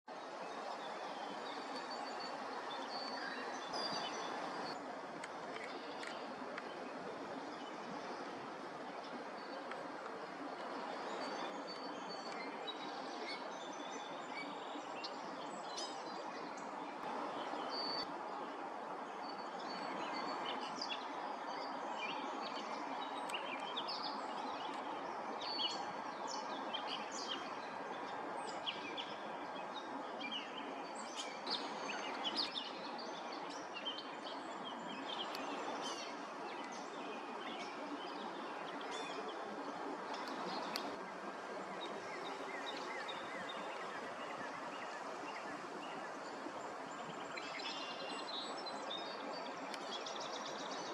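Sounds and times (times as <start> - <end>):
outdoor background hiss: 0.2 - 50.9.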